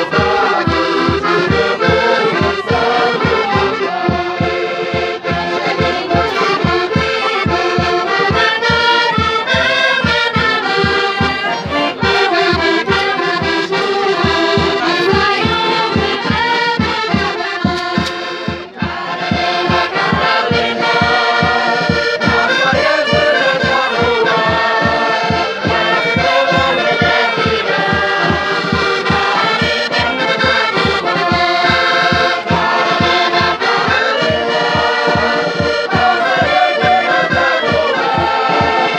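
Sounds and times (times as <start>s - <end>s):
accordions playing: 0.0s - 38.9s
bass drum beat: 0.0s - 38.9s
women singing together: 0.0s - 38.9s.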